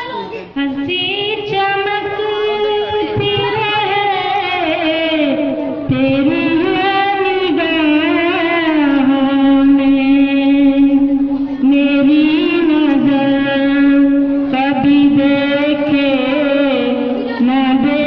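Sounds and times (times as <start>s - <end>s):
woman singing into a microphone: 0.0s - 18.0s.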